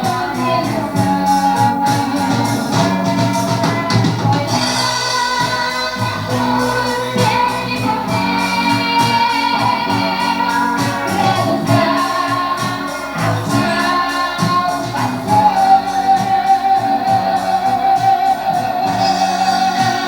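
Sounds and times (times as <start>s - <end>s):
live gospel band with singing: 0.0s - 20.0s.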